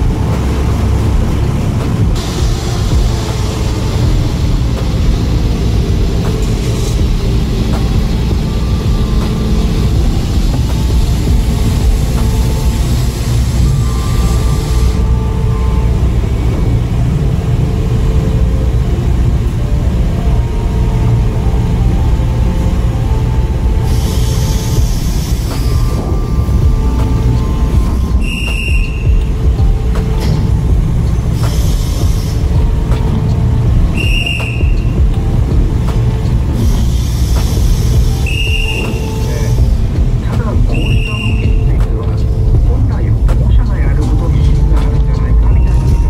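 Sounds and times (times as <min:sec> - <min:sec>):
high hiss: 0:00.0 - 0:17.6, 0:22.8 - 0:46.0
low engine rumble: 0:00.0 - 0:46.0.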